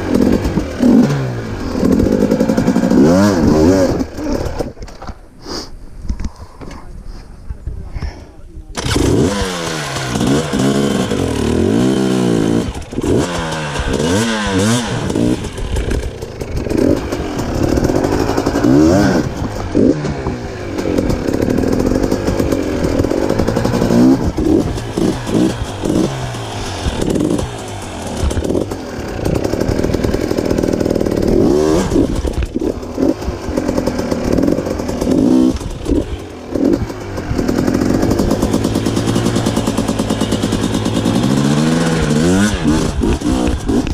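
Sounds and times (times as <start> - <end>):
off-road vehicle engine revving: 0.0 - 4.8, 8.8 - 43.9.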